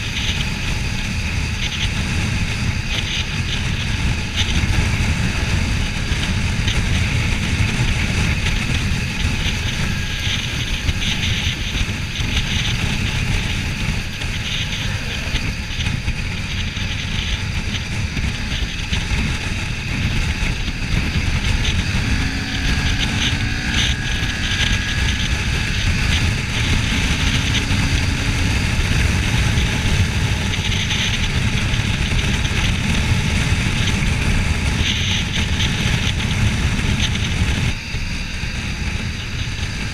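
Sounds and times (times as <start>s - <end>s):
motorcycle engine: 0.0s - 39.9s
wind buffeting microphone: 0.0s - 39.9s.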